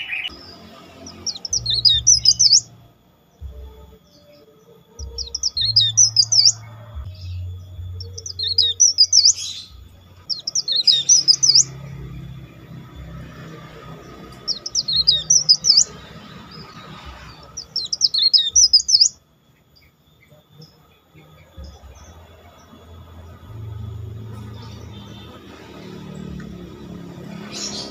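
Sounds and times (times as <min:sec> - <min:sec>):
songbird whistling: 0:00.0 - 0:22.6.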